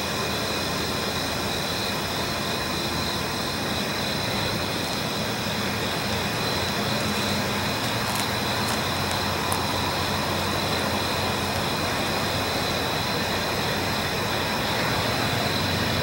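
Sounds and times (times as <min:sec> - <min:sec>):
diesel locomotive rumble: 0:00.0 - 0:16.0
faint whining tones: 0:00.0 - 0:16.0.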